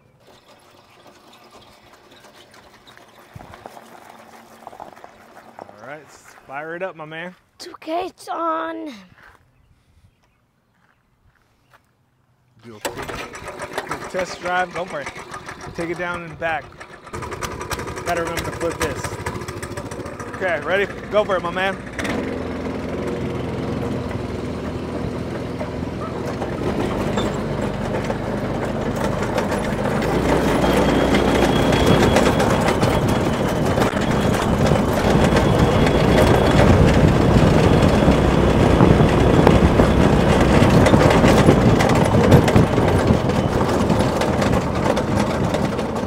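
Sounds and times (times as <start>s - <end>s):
go-kart engine running: 0.0s - 6.5s, 12.8s - 46.0s.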